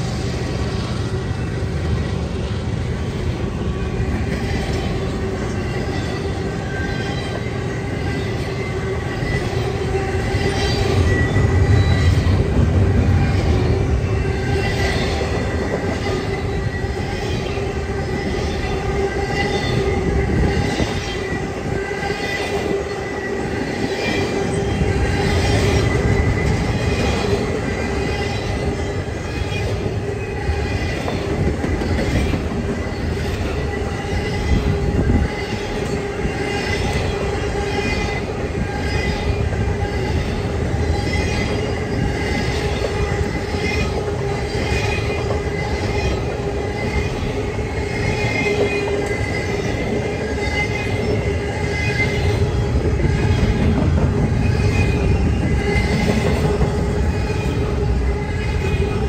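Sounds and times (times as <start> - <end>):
freight train rumbling: 0.0 - 59.0
wheels squealing on rail: 0.0 - 59.0.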